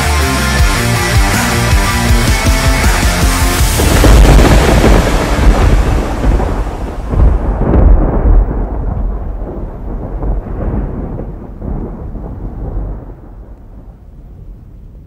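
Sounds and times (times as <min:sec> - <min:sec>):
thunder rumbling: 0:02.2 - 0:15.0.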